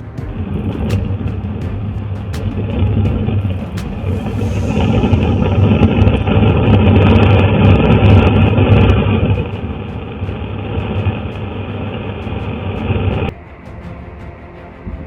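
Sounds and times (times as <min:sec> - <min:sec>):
loud rushing rumble: 0:00.0 - 0:15.0.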